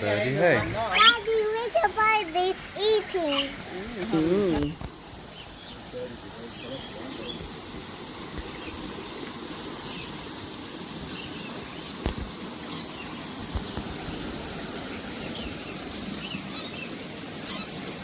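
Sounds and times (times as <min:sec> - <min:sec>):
small birds chirping: 0:00.0 - 0:18.0
steady high hiss: 0:00.0 - 0:18.0.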